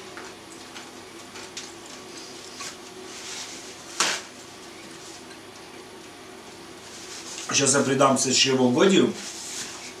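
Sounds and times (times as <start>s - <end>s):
faint room hum: 0.0s - 10.0s.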